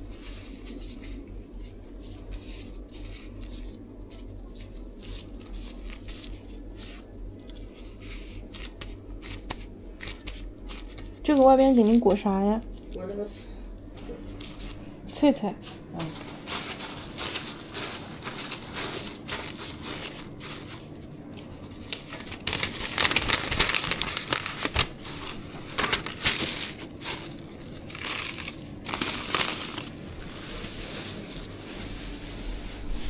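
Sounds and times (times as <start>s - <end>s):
packaging crinkling and crunching: 0.0s - 12.1s, 16.0s - 32.2s.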